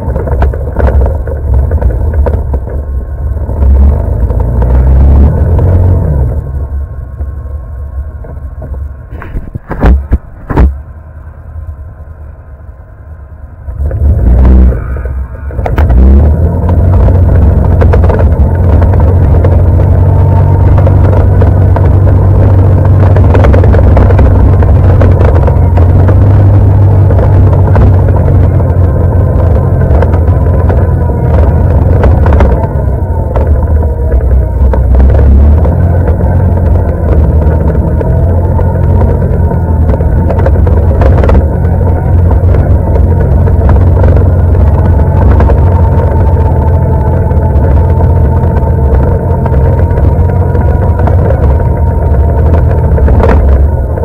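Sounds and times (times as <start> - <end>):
atv engine running and revving: 0.0 - 7.3, 13.8 - 54.0.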